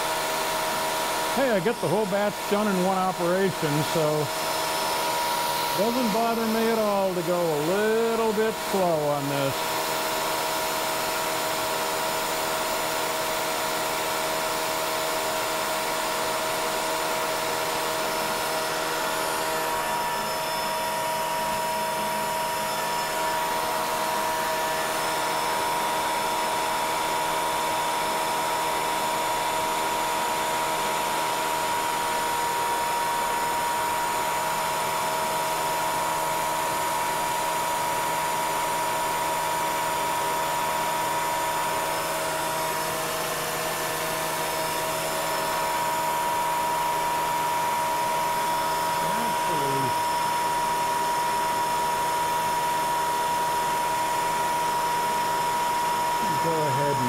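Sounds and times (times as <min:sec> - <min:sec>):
hiss of cutting and coolant mist: 0:00.0 - 0:57.0
milling machine spindle whine: 0:00.0 - 0:57.0.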